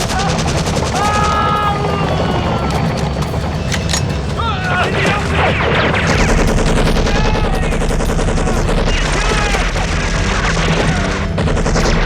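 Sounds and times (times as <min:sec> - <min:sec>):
men yelling: 0:00.0 - 0:11.2
rapid automatic gunfire: 0:00.0 - 0:12.0.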